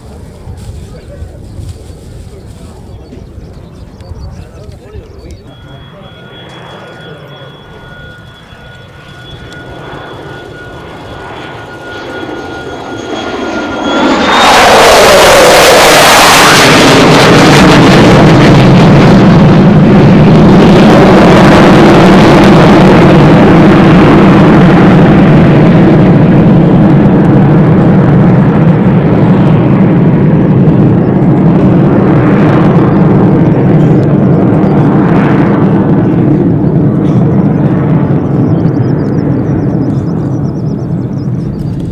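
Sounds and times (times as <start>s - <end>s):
jet plane flying away: 0.0s - 41.9s.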